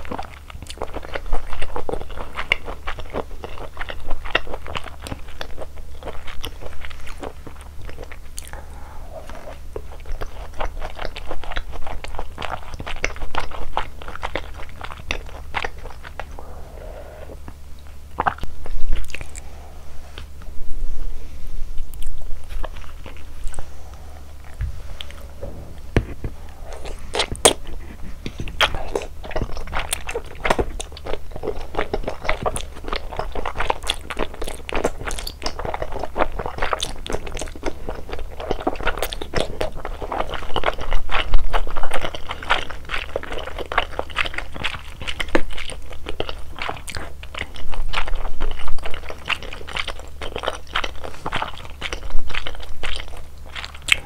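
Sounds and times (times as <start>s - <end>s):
chewing and crunching: 0.0s - 20.5s, 21.8s - 54.0s.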